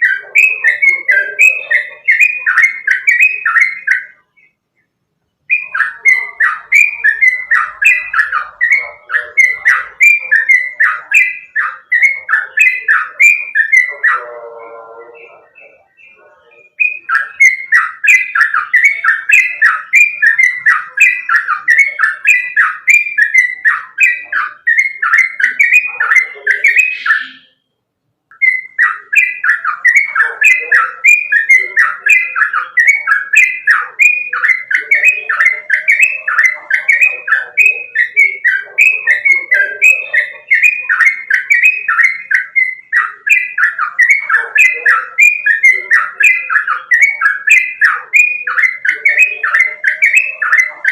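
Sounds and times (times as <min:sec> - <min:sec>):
bird singing repeated notes: 0:00.0 - 0:50.9.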